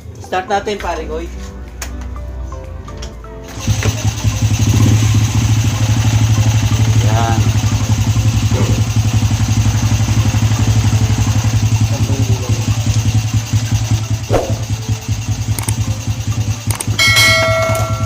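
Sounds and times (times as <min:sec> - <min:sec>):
motorcycle engine idling: 0:03.5 - 0:18.0.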